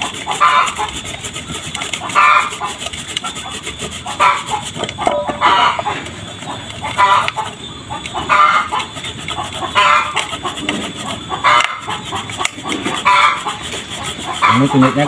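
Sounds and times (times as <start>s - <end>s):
grating on a hand grater: 0.0s - 15.0s.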